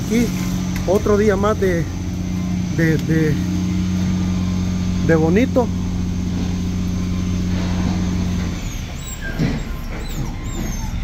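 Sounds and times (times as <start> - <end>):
heavy machinery engine humming: 0.0 - 11.0.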